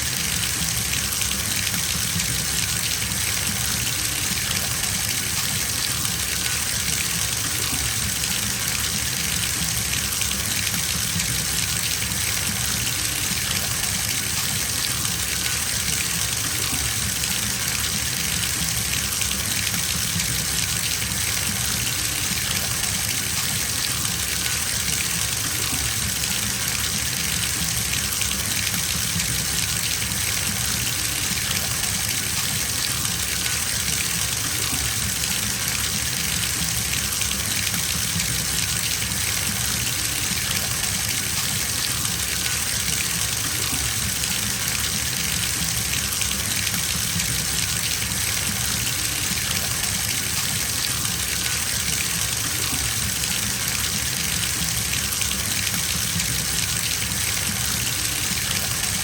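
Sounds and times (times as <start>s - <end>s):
water gushing from bathtub tap: 0.0s - 59.0s.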